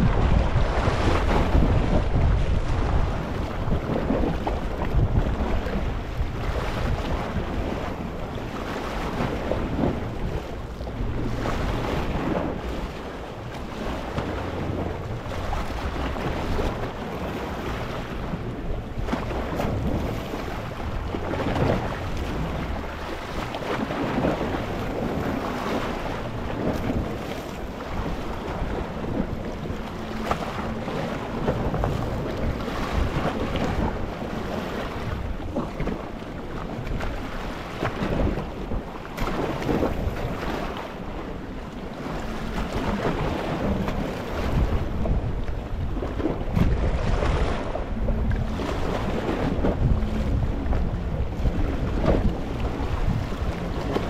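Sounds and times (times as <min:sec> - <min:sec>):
sea waves lapping on rocks: 0:00.0 - 0:54.0.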